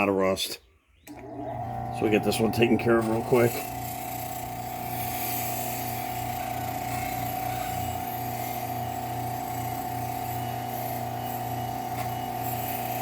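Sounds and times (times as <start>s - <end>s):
bench grinder whining: 1.1s - 13.0s.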